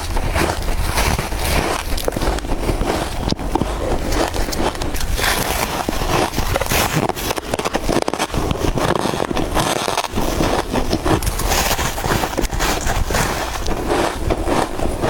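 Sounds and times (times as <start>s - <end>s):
chewing crunchy frost: 0.0s - 15.0s.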